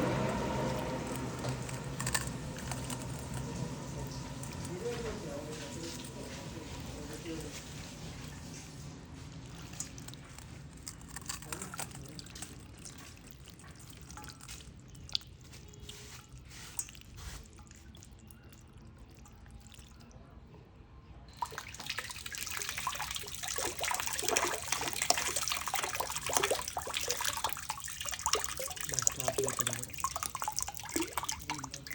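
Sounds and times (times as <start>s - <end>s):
water splashing and dripping: 0.0s - 20.4s, 21.3s - 31.9s.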